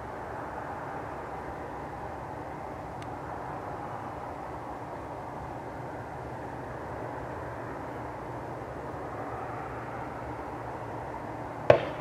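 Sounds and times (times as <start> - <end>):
outdoor background rush: 0.0 - 12.0.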